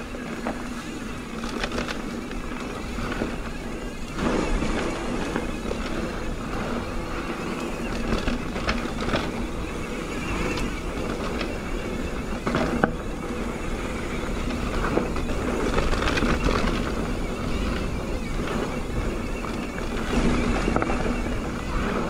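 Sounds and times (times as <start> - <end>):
bike clicks and rattles: 0.0 - 22.0
bike tyre noise: 0.0 - 22.0
wind rumble on microphone: 0.0 - 22.0.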